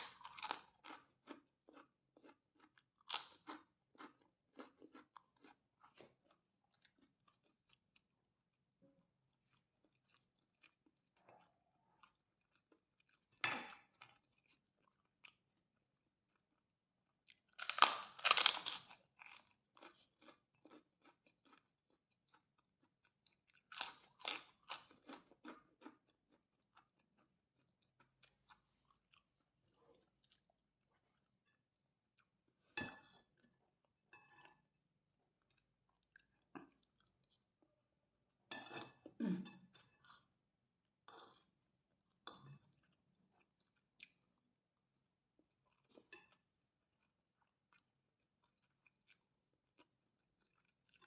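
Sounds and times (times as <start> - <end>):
person chewing and crunching: 0.0 - 37.6, 41.0 - 51.0.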